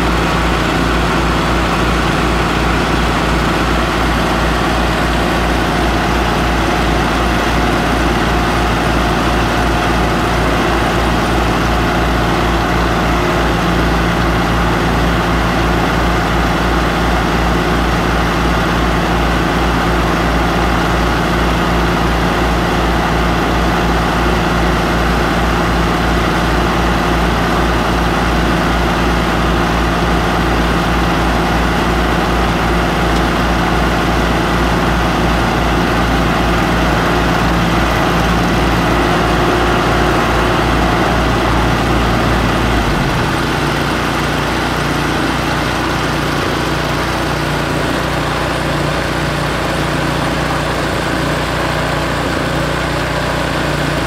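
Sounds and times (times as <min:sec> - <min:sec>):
gas engine running under load: 0:00.0 - 0:54.0
tractor engine running: 0:00.0 - 0:54.0.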